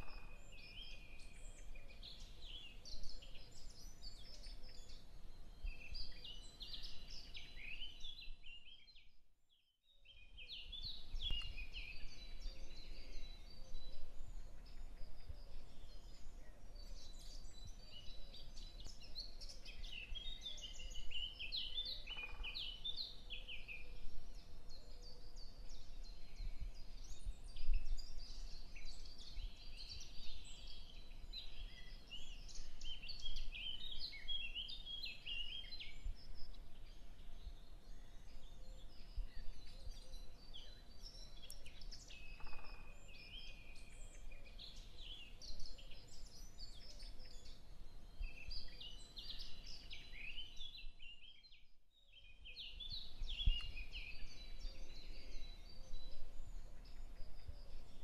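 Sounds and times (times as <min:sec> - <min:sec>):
birds chirping and singing: 0:00.0 - 0:09.0, 0:10.1 - 0:58.0.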